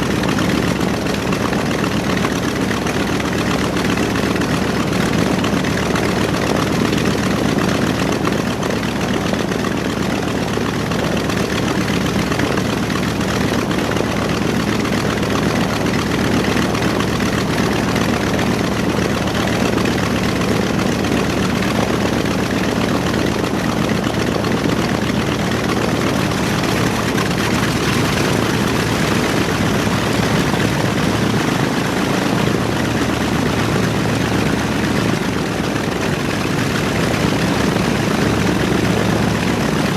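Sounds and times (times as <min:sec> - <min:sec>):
aircraft radial engines droning: 0:00.0 - 0:39.9.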